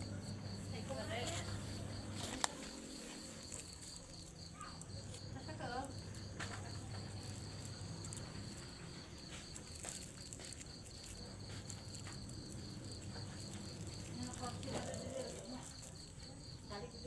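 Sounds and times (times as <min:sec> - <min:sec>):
insect chirping trill: 0:00.0 - 0:17.0
low rural background noise: 0:00.0 - 0:17.0.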